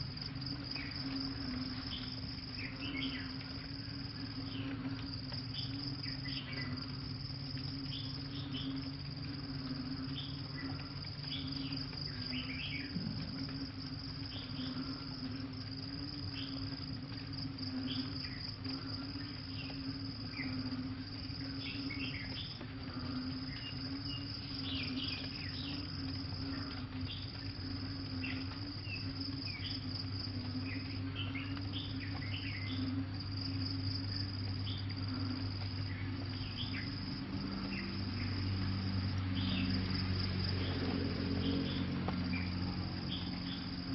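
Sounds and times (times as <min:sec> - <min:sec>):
crickets trilling: 0:00.0 - 0:43.9
low drone: 0:00.0 - 0:43.9.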